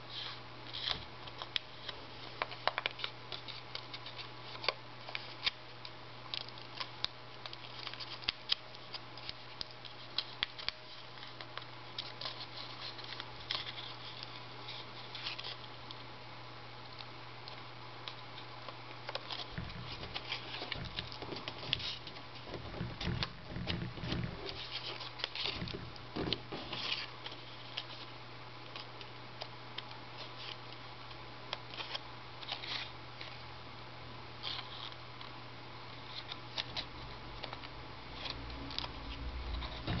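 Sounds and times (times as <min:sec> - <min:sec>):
steady low hum: 0:00.0 - 0:40.0
paper crinkling: 0:00.1 - 0:05.6, 0:06.3 - 0:16.1, 0:16.9 - 0:30.8, 0:31.5 - 0:33.4, 0:34.4 - 0:35.4, 0:36.0 - 0:40.0.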